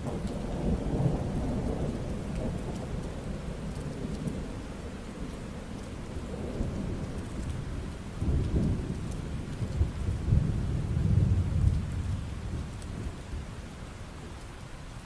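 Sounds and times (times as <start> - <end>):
rolling thunder: 0.0 - 13.7
steady rain: 0.0 - 15.0.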